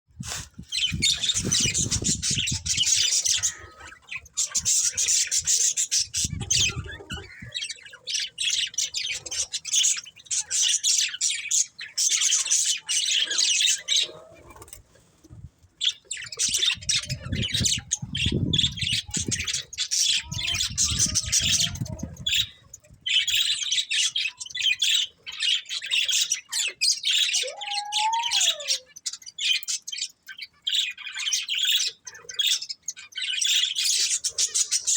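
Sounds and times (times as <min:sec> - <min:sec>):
budgerigars chirping and squawking: 0:00.2 - 0:34.9.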